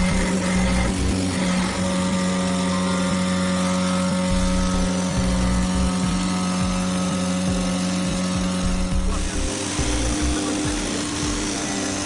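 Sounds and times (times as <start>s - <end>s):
foam cutting machine humming: 0.0s - 12.0s.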